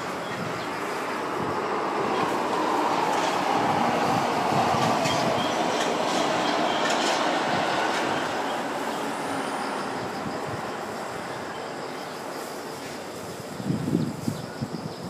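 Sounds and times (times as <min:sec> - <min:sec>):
jet engine roar: 0:00.0 - 0:13.6.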